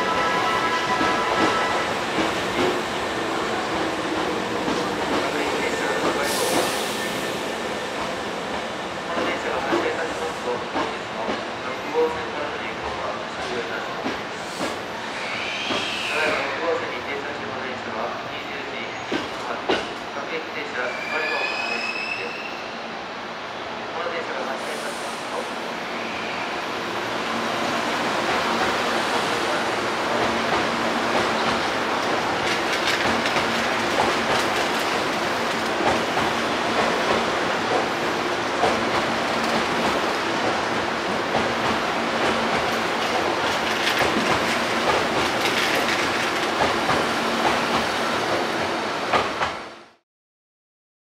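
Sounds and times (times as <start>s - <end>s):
electric train on rails: 0.0s - 50.0s.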